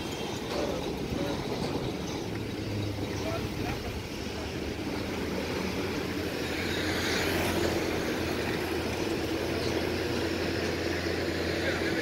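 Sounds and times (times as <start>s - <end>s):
freight wagons rolling on rails: 0.0s - 12.0s.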